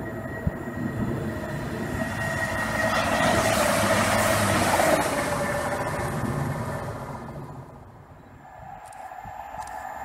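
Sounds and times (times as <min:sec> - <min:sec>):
diesel train passing: 0:00.0 - 0:10.0.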